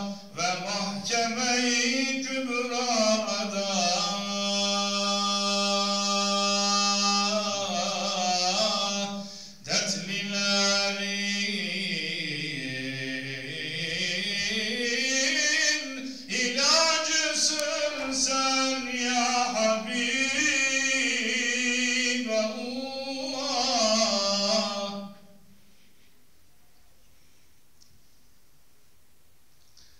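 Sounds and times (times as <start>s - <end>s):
man chanting: 0.0s - 25.3s.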